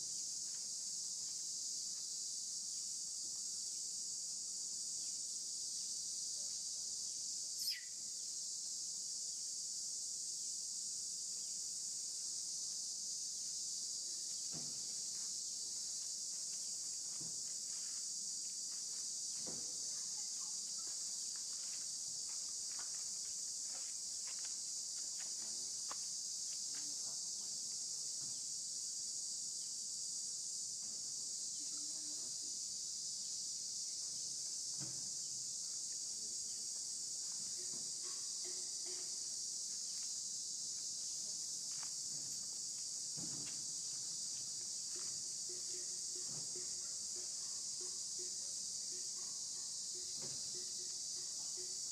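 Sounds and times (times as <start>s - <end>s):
insects droning in chorus: 0.0s - 51.9s.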